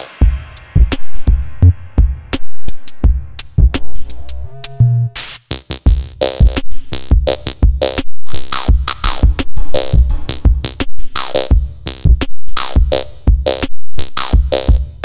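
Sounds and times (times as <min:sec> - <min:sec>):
electronic music with drum beat: 0:00.0 - 0:15.0.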